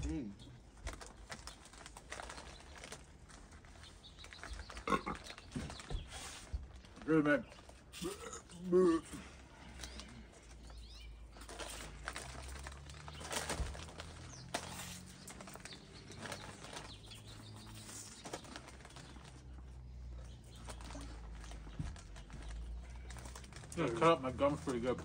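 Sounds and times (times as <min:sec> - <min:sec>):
people chewing crunchy snacks: 0:00.0 - 0:25.0.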